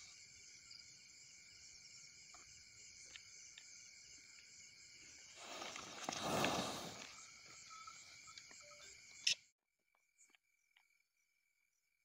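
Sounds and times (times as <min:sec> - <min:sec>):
faint crickets chirping: 0:00.0 - 0:12.0.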